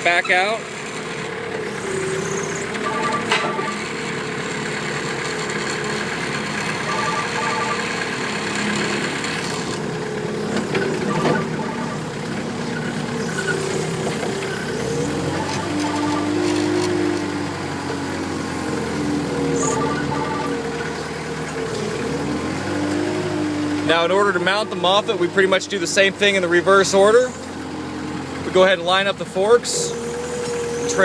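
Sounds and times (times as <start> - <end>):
forklift engine running: 0.0 - 31.0.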